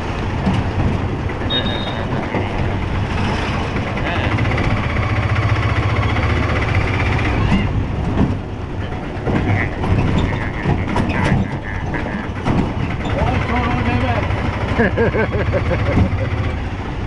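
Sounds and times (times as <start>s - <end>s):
auto-rickshaw engine running: 0.0s - 17.0s
vehicle body rattling and knocking: 0.0s - 17.0s.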